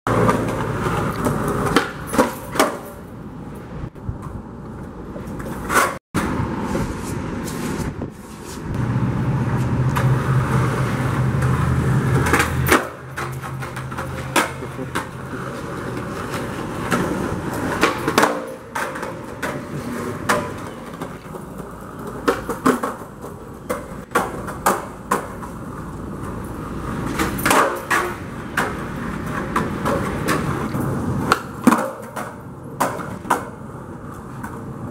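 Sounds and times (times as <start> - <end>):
skateboard clacks: 0.1 - 3.1, 9.6 - 34.9
skateboard wheels rolling on concrete: 0.1 - 34.9.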